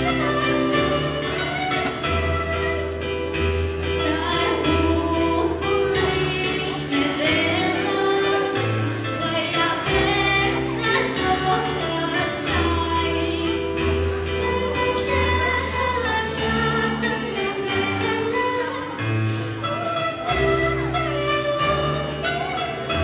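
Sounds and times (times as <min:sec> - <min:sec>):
instrumental accompaniment: 0:00.0 - 0:23.0
girl singing into a microphone: 0:03.8 - 0:23.0.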